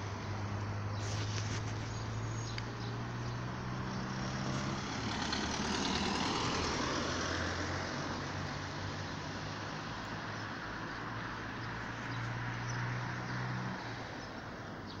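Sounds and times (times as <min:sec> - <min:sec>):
road traffic engine hum: 0:00.0 - 0:15.0
vehicle passing: 0:00.3 - 0:14.3.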